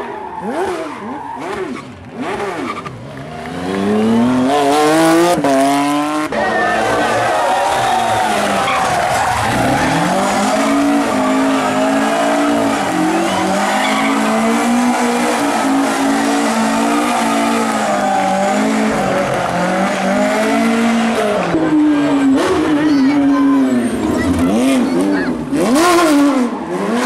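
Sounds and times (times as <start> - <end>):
rally car engine at high revs: 0.0 - 27.0
tyres squealing and skidding: 0.0 - 27.0.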